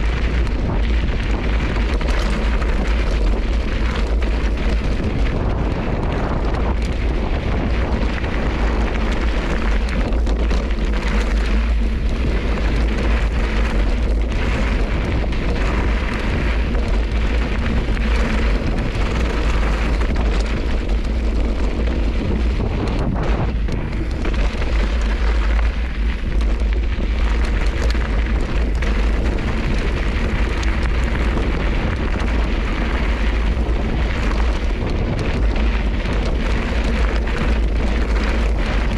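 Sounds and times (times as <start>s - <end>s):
tyres crunching on loose gravel: 0.0s - 38.9s
wind buffeting microphone: 0.0s - 38.9s.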